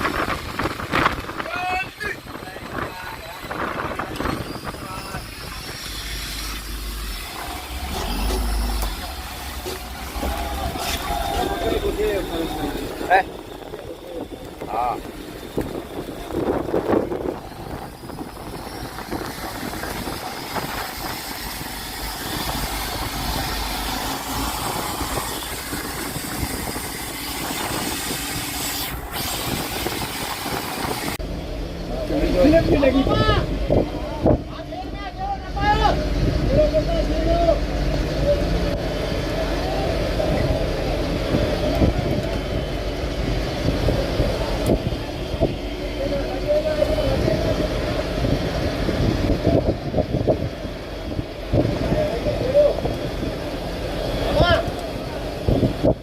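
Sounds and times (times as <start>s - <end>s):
boat engine running: 0.0s - 56.0s
constant wash of noise: 0.0s - 56.0s.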